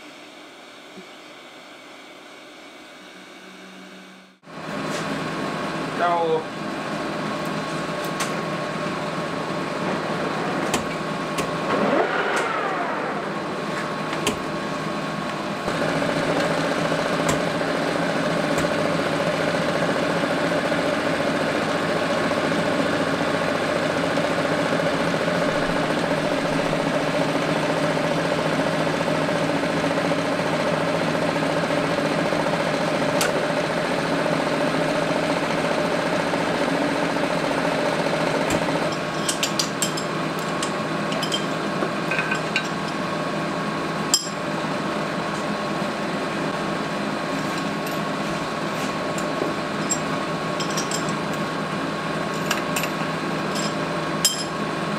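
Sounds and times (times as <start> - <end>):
metal lathe humming: 5.6 - 54.9.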